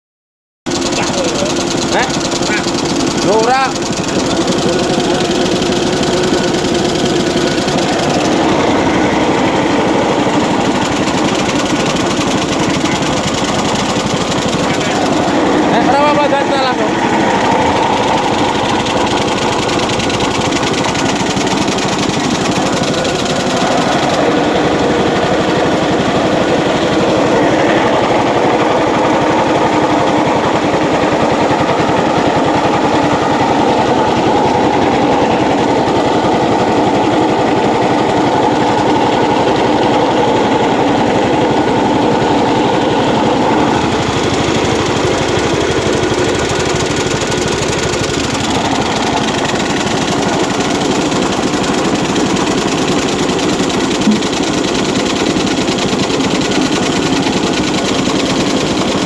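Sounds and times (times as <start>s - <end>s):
processing machine running: 0.7s - 59.0s.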